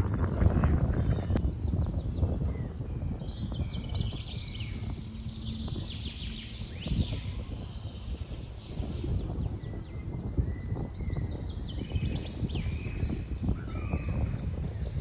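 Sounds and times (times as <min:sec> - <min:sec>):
low rumbling background: 0:00.5 - 0:15.0
birds chirping and trilling: 0:00.8 - 0:15.0.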